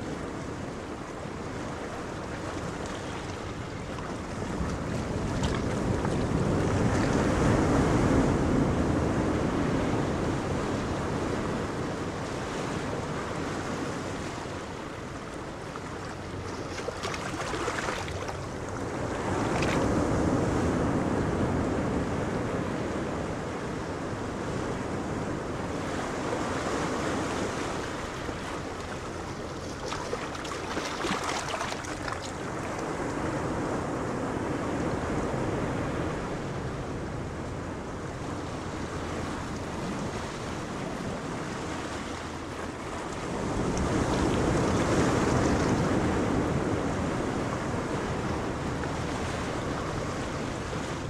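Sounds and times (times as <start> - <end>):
choppy sea: 0.0 - 51.0
faint boat engine drone: 0.0 - 51.0
wind gusting across microphone: 0.0 - 51.0.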